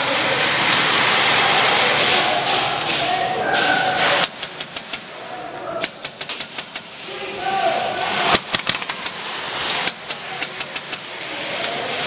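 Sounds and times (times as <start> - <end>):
rapid airsoft gun shots: 0.4 - 5.2, 5.8 - 7.1, 8.0 - 12.0.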